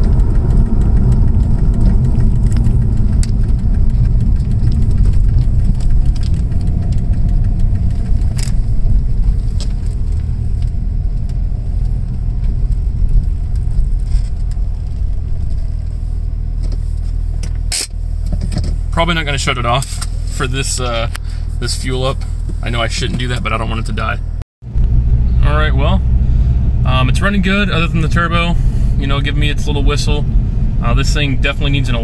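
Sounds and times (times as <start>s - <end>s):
car engine low rumble: 0.0s - 32.0s.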